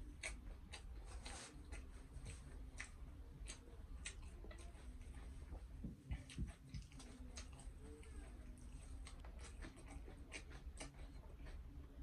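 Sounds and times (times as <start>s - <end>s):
wet chewing mouth clicks: 0.0s - 12.0s.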